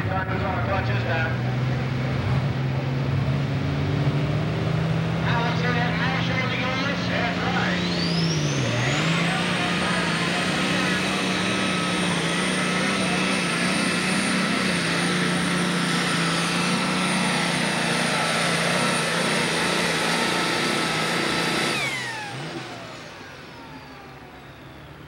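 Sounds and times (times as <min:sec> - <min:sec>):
diesel engine at full throttle: 0:00.0 - 0:25.0
turbocharger whine: 0:00.0 - 0:25.0.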